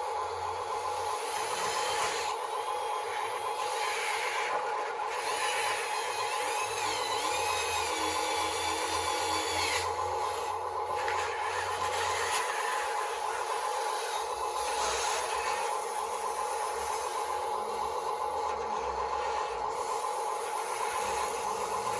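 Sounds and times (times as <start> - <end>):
small electric motors whining: 0.0 - 21.9.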